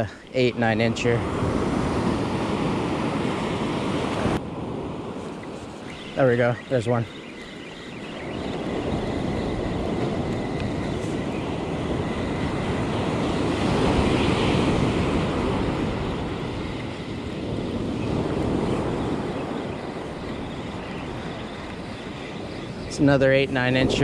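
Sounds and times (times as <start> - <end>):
ocean surf breaking on beach: 0.0 - 24.0
wind rumbling on microphone: 0.0 - 24.0.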